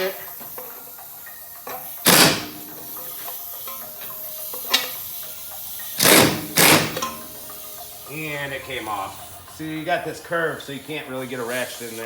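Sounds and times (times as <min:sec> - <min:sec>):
pneumatic wrench bursts: 0:00.0 - 0:10.0.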